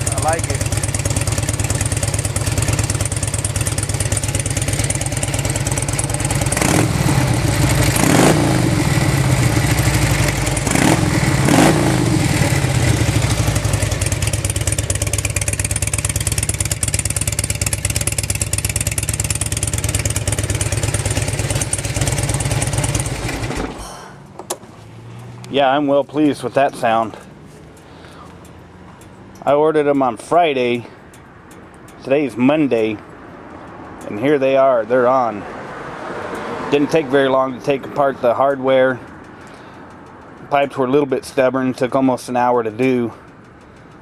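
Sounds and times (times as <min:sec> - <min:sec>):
motorcycle engine idling and revving: 0:00.0 - 0:44.0.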